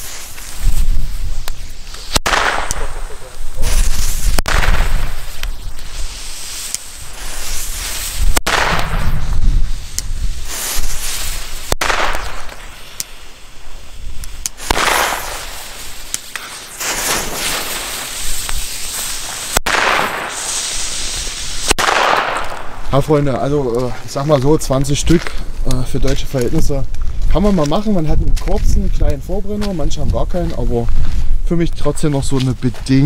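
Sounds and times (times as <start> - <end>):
firecrackers banging: 0.0 - 26.6.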